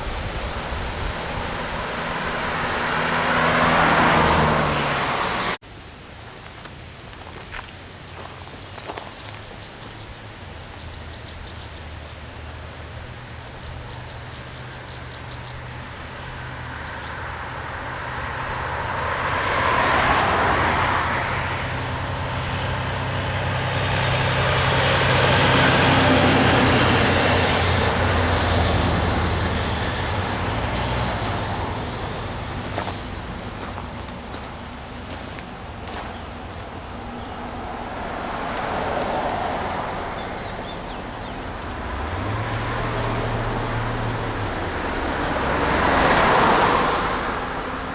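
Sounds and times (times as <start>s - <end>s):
vehicles driving past: 0.0s - 5.6s, 8.2s - 47.9s.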